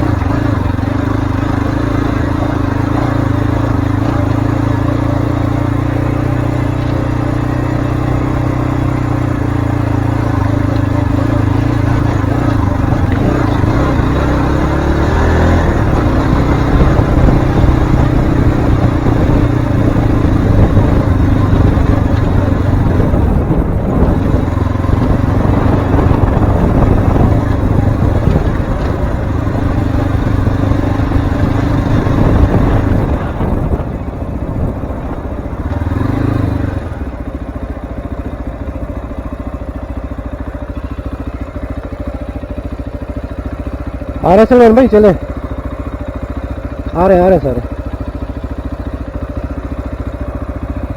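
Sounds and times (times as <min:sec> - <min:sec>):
motorcycle engine running: 0:00.0 - 0:50.9
rough track noise: 0:00.0 - 0:50.9.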